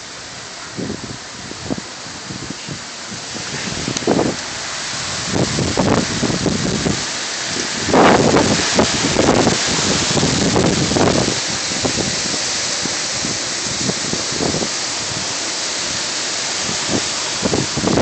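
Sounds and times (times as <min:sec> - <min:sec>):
driving rain: 0:00.0 - 0:18.0
hurricane wind: 0:00.0 - 0:18.0
wind gusts buffeting microphone: 0:00.0 - 0:18.0.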